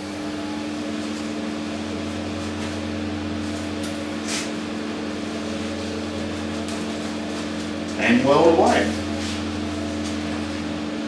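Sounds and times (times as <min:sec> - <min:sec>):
welder fan hum: 0:00.0 - 0:11.0.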